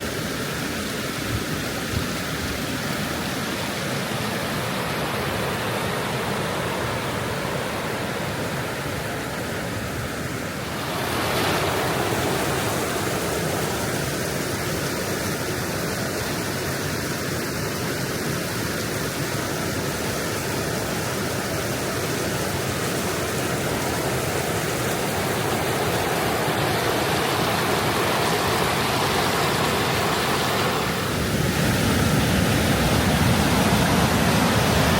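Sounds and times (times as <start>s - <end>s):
river rushing over rapids: 0.0s - 34.9s.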